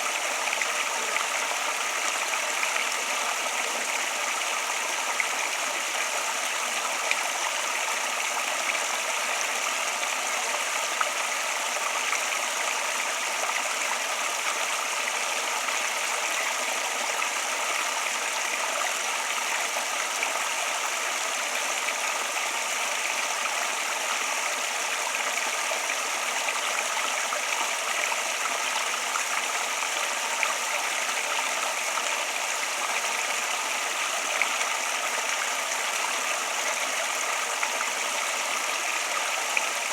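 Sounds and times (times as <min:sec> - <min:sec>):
water flowing: 0:00.0 - 0:39.9.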